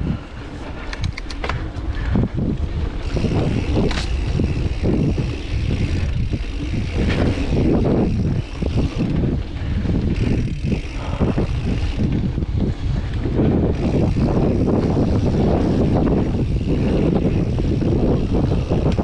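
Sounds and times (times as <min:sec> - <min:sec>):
bike rattling: 0:00.0 - 0:19.0
bike tyres rumbling on dirt: 0:00.0 - 0:19.0
wind buffeting microphone: 0:00.0 - 0:19.0.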